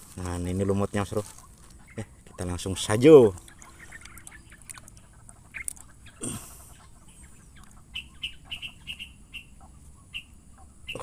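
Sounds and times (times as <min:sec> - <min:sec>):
bird chirping: 0:00.2 - 0:11.0.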